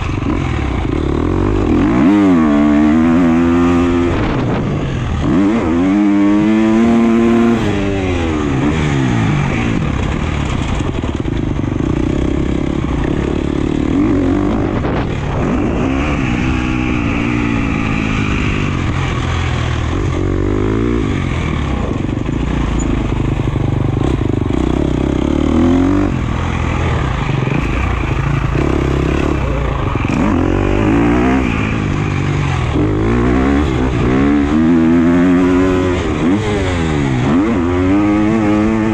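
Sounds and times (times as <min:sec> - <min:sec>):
motocross engine revving hard: 0:00.0 - 0:10.2, 0:11.8 - 0:22.8, 0:24.0 - 0:38.9.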